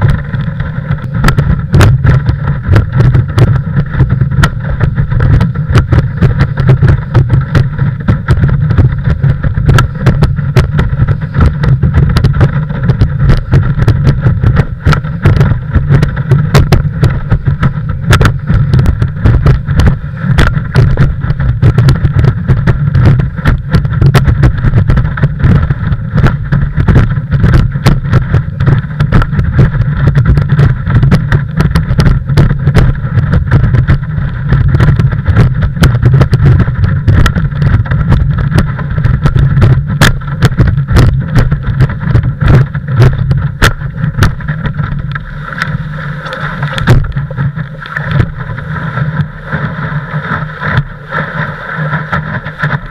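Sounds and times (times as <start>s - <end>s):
board slapping through water: 0.0s - 52.9s
muffled wind and water rumble: 0.0s - 52.9s.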